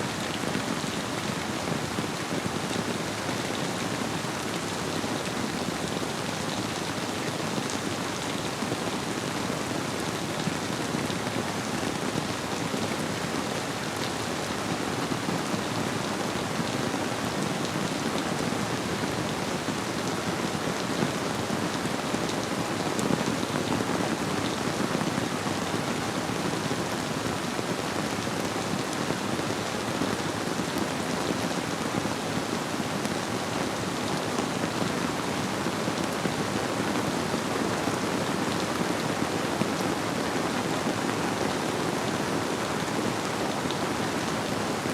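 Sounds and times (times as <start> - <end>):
rain pattering on surfaces: 0.1 - 44.9.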